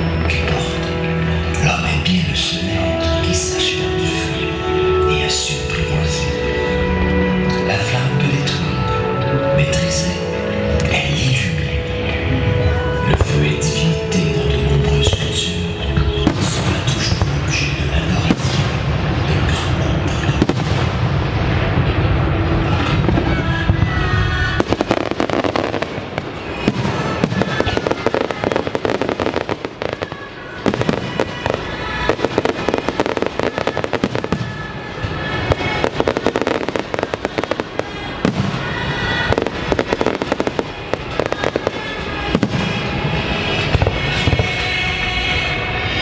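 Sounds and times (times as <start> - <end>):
fireworks crackling and bursts: 0.0 - 46.0
music playing: 0.0 - 46.0.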